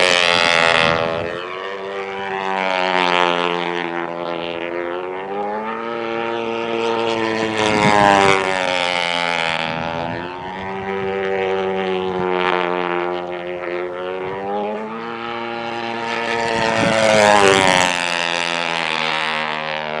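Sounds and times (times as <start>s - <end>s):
model airplane engine fly-by: 0.0s - 20.0s.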